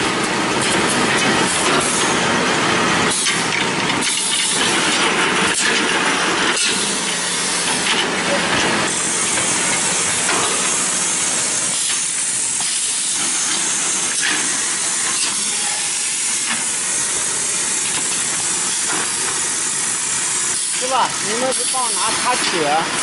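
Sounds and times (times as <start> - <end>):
machine hissing: 0.0 - 23.0.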